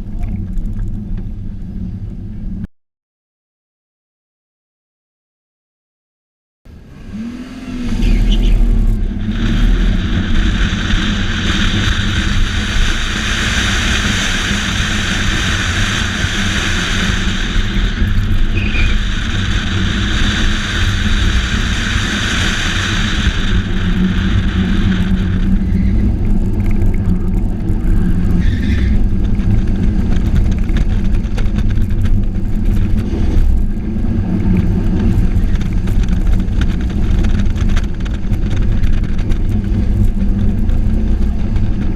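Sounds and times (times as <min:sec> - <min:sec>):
car engine running hard: 0:06.7 - 0:41.9.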